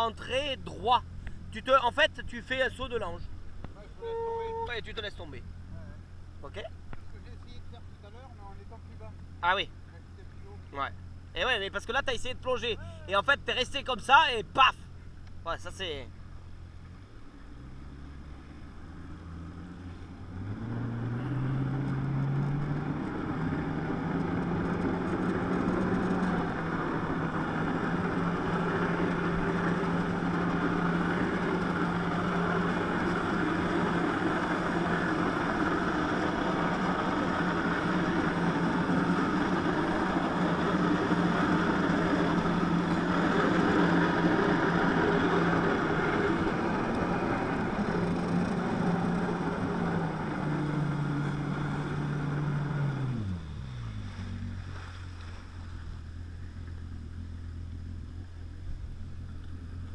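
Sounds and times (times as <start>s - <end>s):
jet ski engine revving: 0.0s - 59.9s.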